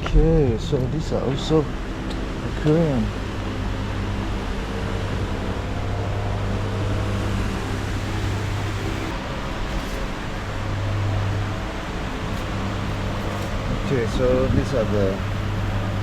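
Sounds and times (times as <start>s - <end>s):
airy rushing: 0.0s - 16.0s
low electrical machine hum: 0.0s - 16.0s.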